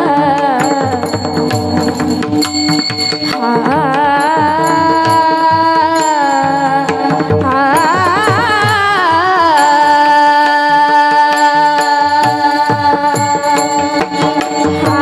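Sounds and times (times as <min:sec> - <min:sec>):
girl singing: 0:00.0 - 0:01.6, 0:03.3 - 0:15.0.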